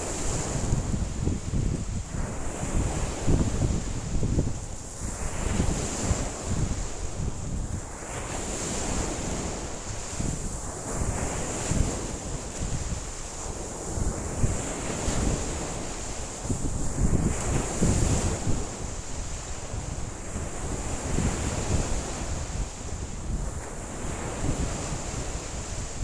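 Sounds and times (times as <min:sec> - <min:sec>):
wind gusting over microphone: 0:00.0 - 0:26.0.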